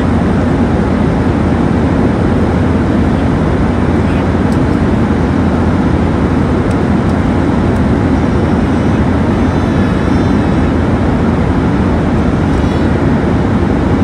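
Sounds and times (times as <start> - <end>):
airliner cabin engine hum: 0.0 - 14.0.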